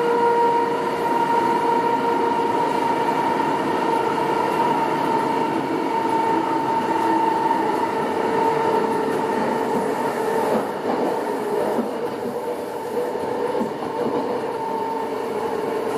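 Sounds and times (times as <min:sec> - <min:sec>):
train wheels rumbling on rail: 0:00.0 - 0:15.9
train whine: 0:00.0 - 0:15.9.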